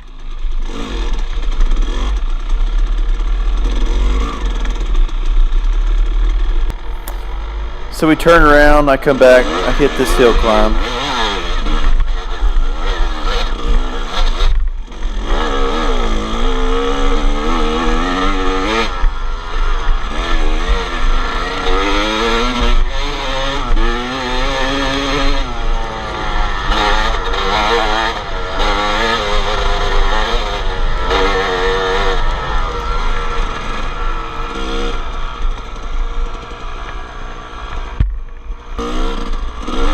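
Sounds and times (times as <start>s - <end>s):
two-stroke engine revving: 0.2s - 39.9s.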